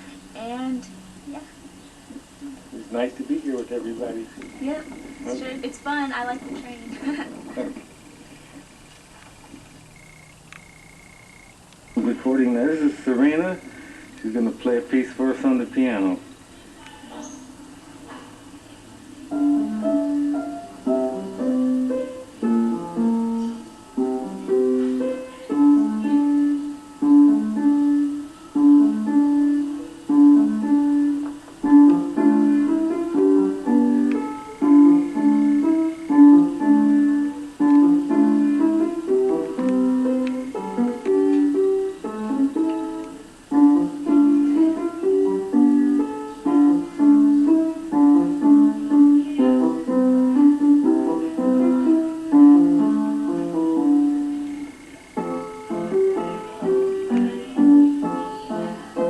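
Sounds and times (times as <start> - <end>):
solo piano piece: 1.1 - 8.9, 9.6 - 59.0.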